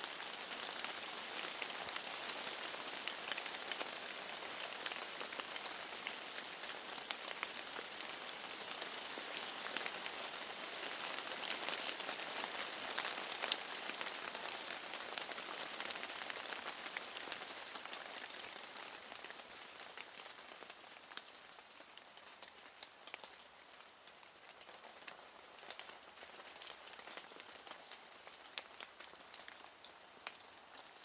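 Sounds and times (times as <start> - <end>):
steady rain with ticking drops: 0.0 - 31.0.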